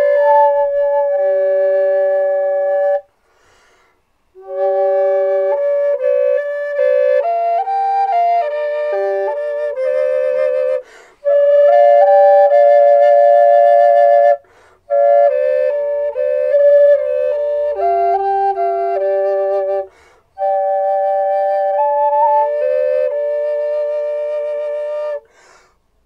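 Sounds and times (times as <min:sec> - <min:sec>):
flute playing slow harmony melody: 0:00.0 - 0:03.1, 0:04.3 - 0:25.4.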